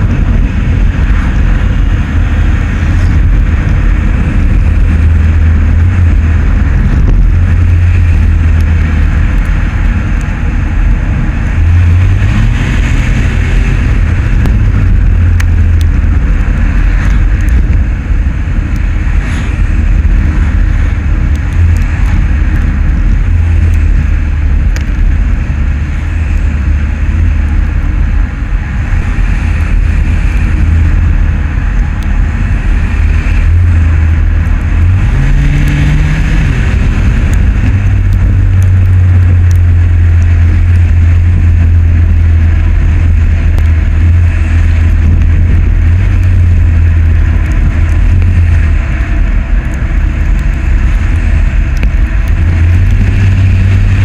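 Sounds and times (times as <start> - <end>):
wind and tyre rumble: 0.0 - 54.0.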